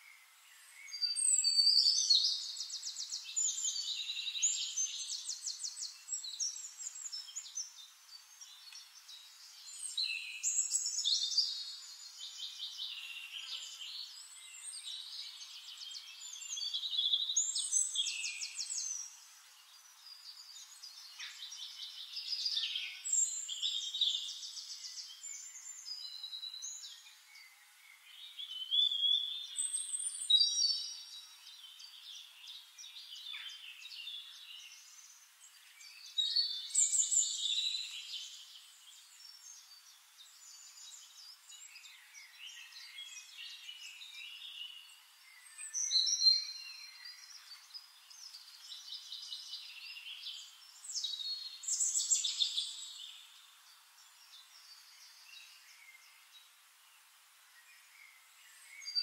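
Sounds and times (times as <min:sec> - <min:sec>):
quiet bird chirps: 0:00.0 - 0:59.0.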